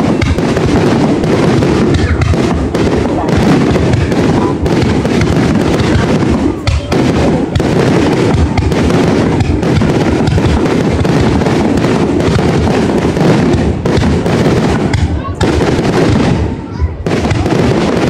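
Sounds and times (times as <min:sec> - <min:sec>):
fireworks booming and crackling: 0:00.0 - 0:18.0.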